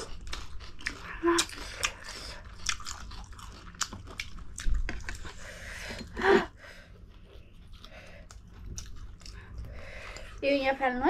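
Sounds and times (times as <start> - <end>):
chewing noodles close up: 0.0 - 5.5, 6.8 - 10.4.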